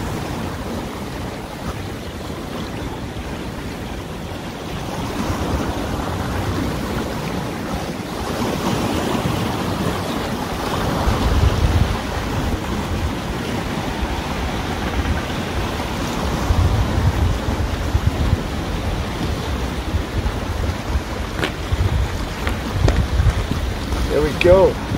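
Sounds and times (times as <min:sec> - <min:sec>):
waves breaking against rocks: 0:00.0 - 0:24.9
wind buffeting microphone: 0:00.0 - 0:24.9.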